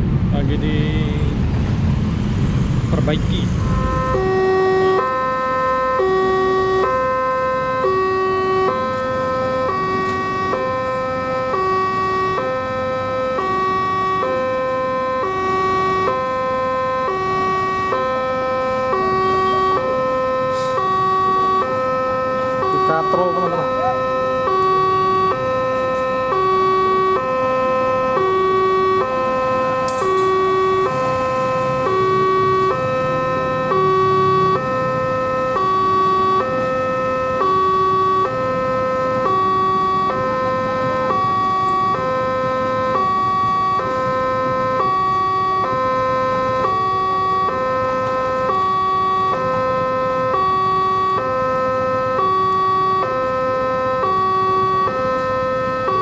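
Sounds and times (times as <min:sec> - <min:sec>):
level-crossing two-tone alarm: 0:03.0 - 0:56.0.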